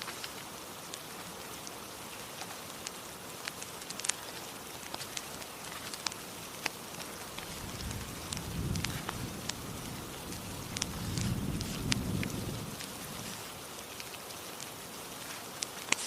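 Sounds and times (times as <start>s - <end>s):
fireplace crackling and popping: 0.0s - 16.0s.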